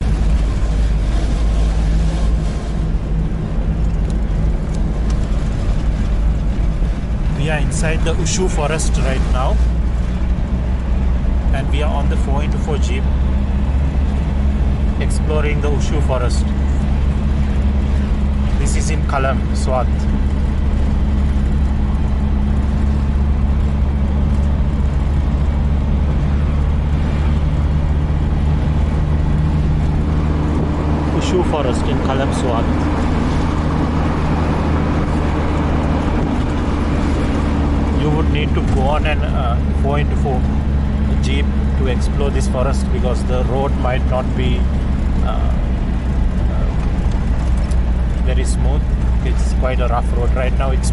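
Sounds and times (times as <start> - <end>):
car engine droning: 0.0 - 50.9
road and wind noise: 0.0 - 50.9.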